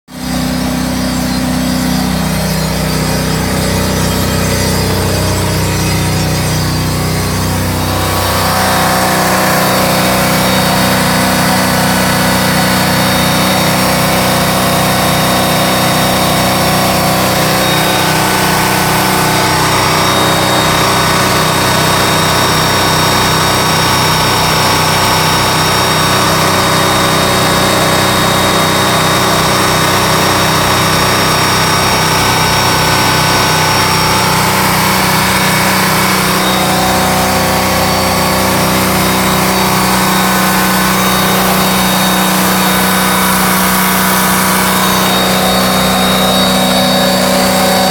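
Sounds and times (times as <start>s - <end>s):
boat engine running: 0.1s - 47.9s.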